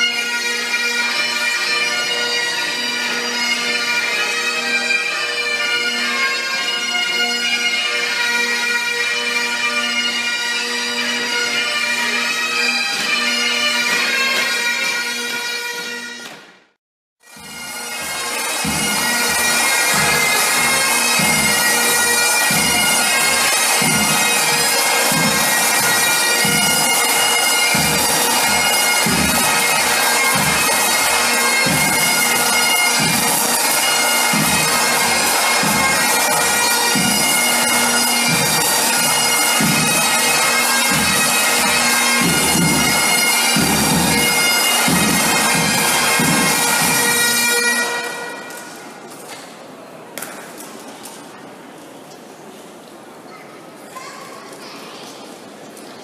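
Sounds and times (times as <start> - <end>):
bagpipes playing over drone: 0.0 - 16.3, 17.3 - 48.8.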